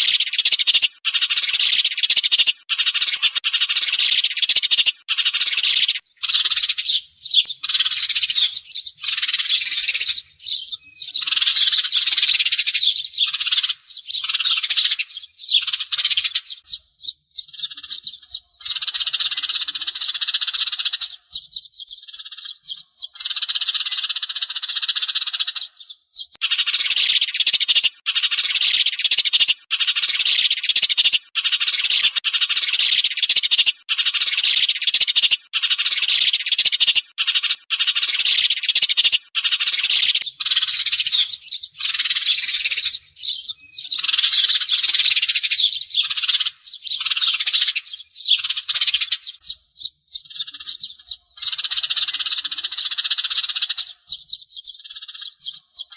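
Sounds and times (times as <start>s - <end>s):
sparrows chirping: 0.0s - 55.9s.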